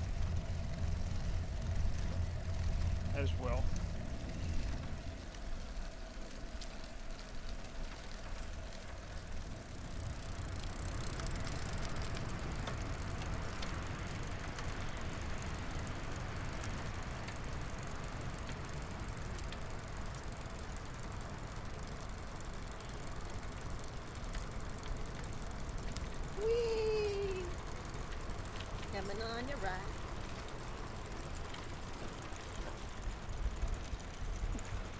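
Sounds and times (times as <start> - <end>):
tyre noise on pavement: 0.0 - 34.9.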